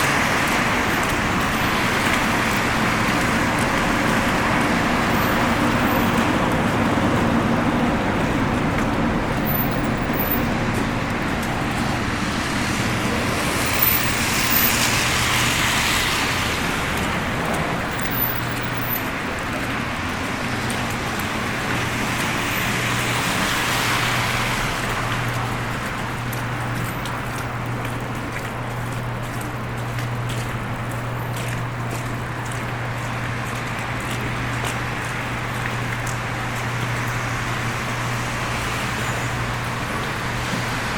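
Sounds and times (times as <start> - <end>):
cars passing: 0.0 - 40.9.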